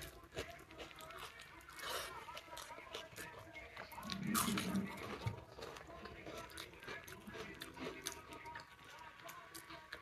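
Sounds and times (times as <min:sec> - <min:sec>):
chewing with crunches: 0:00.0 - 0:10.0.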